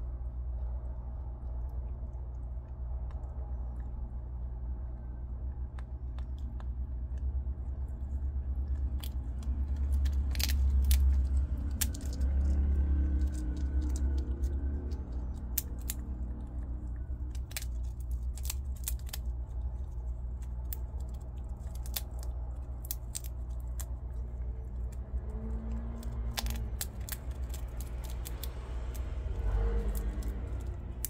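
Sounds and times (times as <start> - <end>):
low hum: 0.0 - 31.0
prairie dogs crunching nuts: 0.0 - 31.0.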